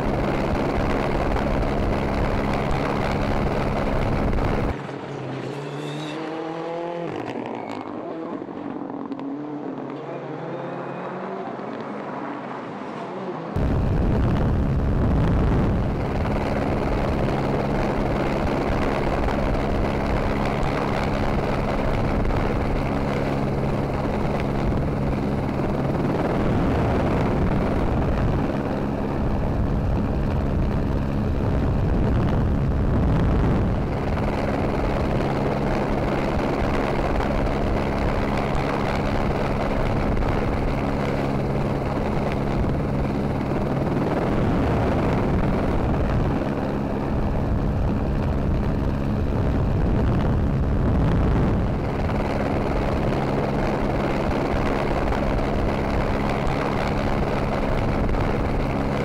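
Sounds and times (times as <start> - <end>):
helicopter rotor and engine drone: 0.0 - 6.1, 13.6 - 59.0.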